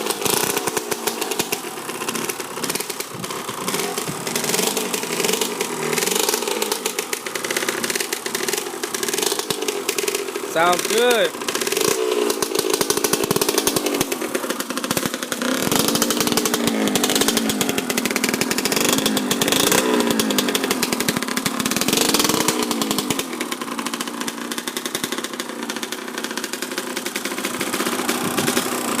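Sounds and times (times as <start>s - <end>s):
motorcycle engine revving and idling: 0.0s - 29.0s.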